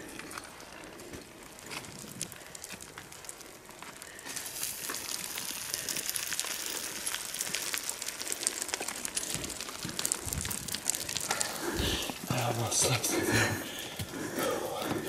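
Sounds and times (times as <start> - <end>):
footsteps crunching on scree: 0.0 - 15.0.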